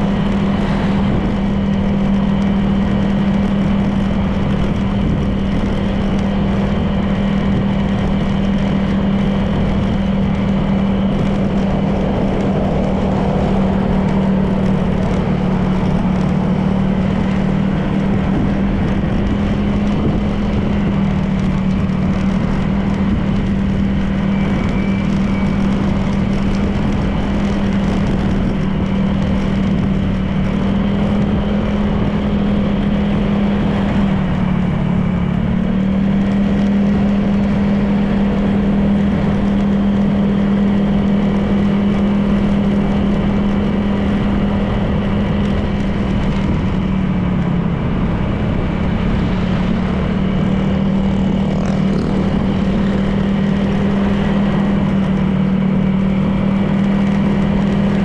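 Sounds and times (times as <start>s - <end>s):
scooter engine cruising: 0.0s - 58.0s
wind and road noise: 0.0s - 58.0s.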